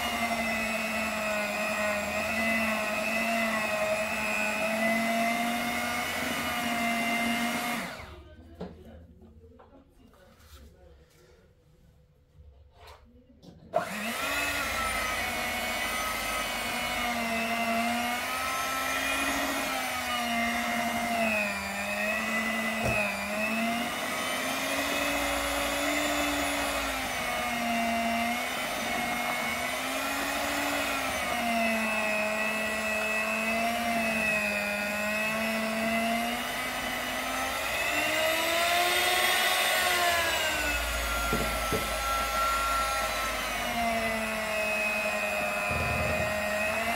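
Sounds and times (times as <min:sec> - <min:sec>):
electric hand mixer whining: 0:00.0 - 0:08.3, 0:13.7 - 0:46.9.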